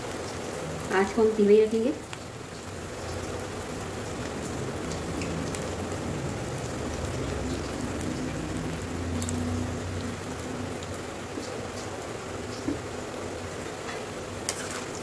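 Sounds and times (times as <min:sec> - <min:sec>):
oil sizzling while deep-frying: 0:00.0 - 0:15.0.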